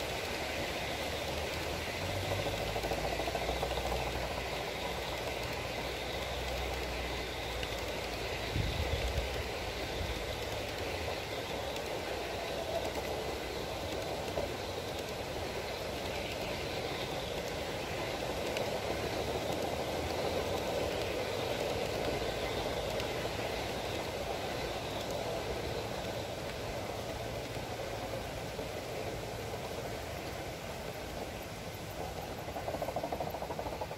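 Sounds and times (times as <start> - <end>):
model train wheels on rails: 0.0 - 33.9.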